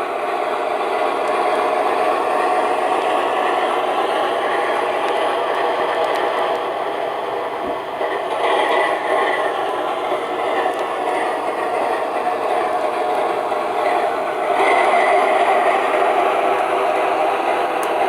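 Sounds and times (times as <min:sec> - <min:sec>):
model locomotive diesel engine sound: 0:00.0 - 0:18.0.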